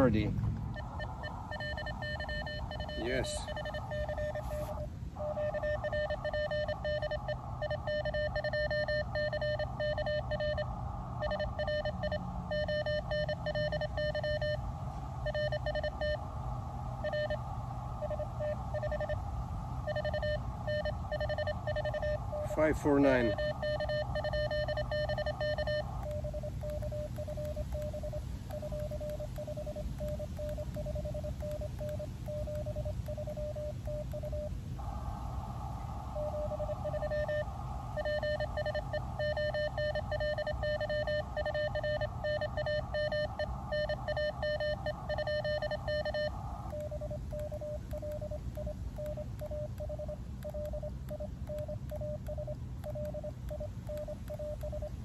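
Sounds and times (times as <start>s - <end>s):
morse code beeping: 0.0s - 16.2s, 17.0s - 19.2s, 19.8s - 34.9s, 36.1s - 55.0s
buzzy morse signal: 0.0s - 55.0s
radio band noise hiss: 0.0s - 55.0s.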